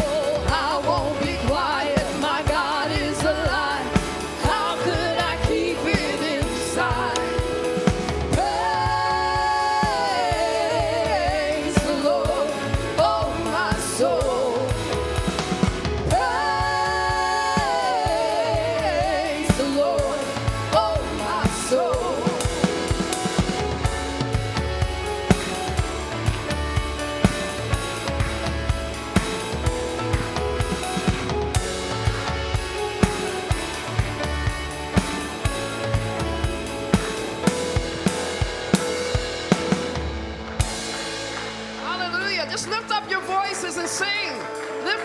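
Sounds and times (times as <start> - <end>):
drum kit beat: 0.0 - 45.0
gospel worship band: 0.0 - 45.0.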